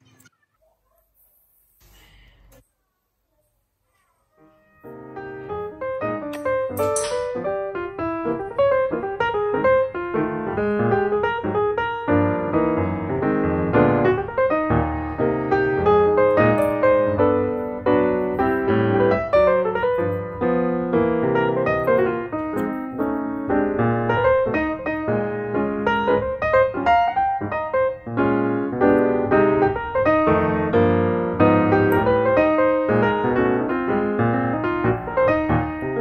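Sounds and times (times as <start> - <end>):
piano music: 4.4 - 36.0.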